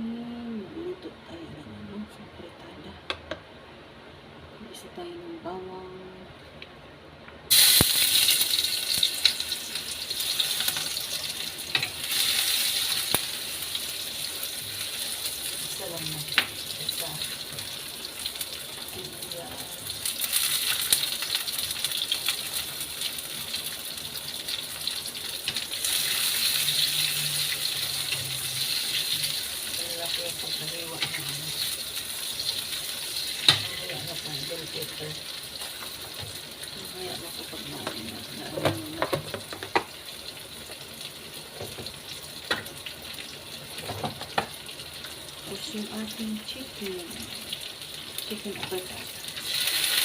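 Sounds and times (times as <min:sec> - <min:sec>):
garlic and onion sizzling in oil: 0:07.5 - 0:50.0.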